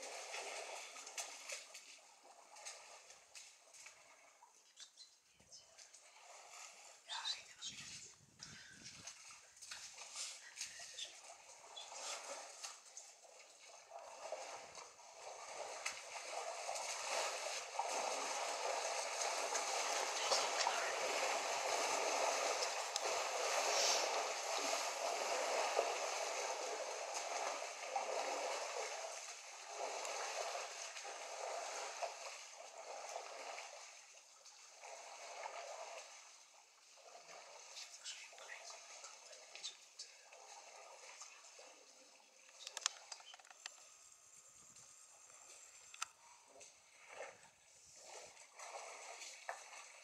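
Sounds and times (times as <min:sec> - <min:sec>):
water splashing and gurgling: 0:00.0 - 0:04.7, 0:05.6 - 0:50.0.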